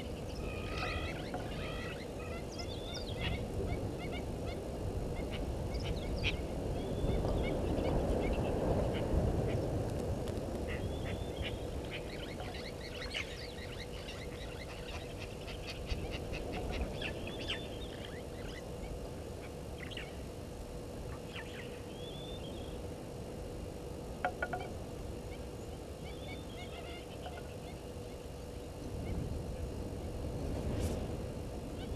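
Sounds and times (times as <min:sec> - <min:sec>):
birds calling: 0:00.0 - 0:09.7, 0:10.7 - 0:20.2, 0:21.1 - 0:22.8, 0:24.2 - 0:29.3
faint steady hum: 0:00.0 - 0:31.9.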